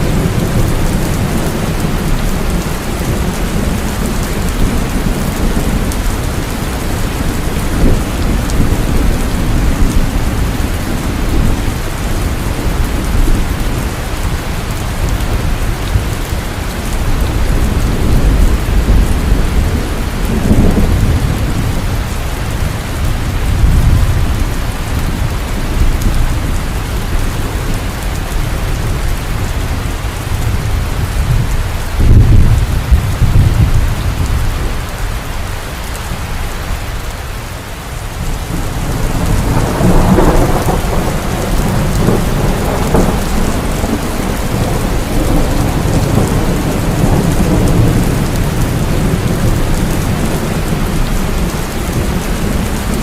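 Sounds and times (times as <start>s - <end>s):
thunder rumbling: 0.0s - 37.4s, 38.0s - 53.0s
heavy rain pouring: 0.0s - 53.0s.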